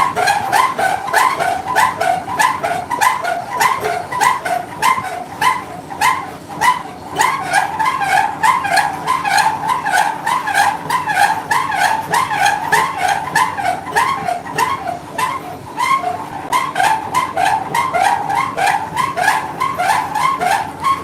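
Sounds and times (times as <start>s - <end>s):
mill machinery rhythmic squeal: 0.0s - 21.0s.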